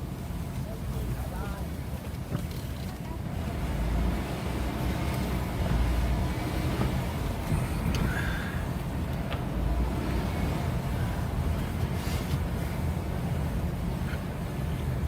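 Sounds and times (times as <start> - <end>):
air buffeting through cabin: 0.0 - 15.0
engine and road rumble: 0.0 - 15.0.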